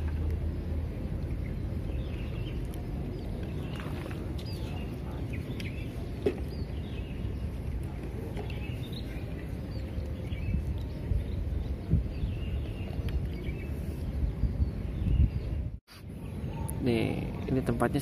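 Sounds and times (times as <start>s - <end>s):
low background rumble: 0.0s - 16.7s
small birds chirping: 0.5s - 18.0s.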